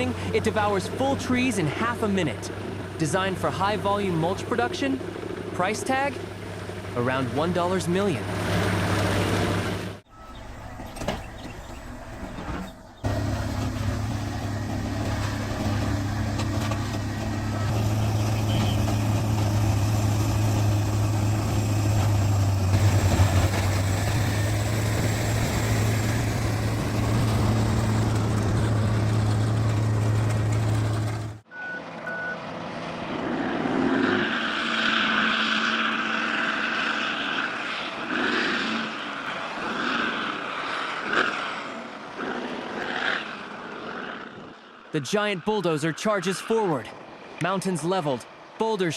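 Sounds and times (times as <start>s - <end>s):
heavy engine humming: 0.0s - 42.4s.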